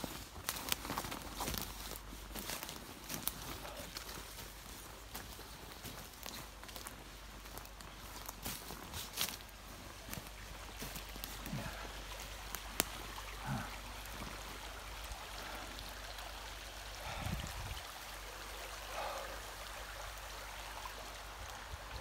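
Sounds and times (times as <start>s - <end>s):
stream babbling over stones: 0.0s - 22.0s.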